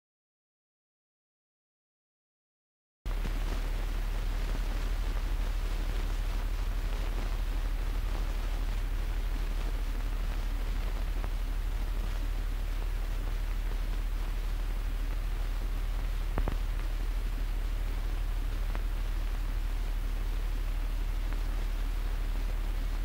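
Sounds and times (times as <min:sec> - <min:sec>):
low hum: 0:03.1 - 0:23.0
steady hiss: 0:03.1 - 0:23.0.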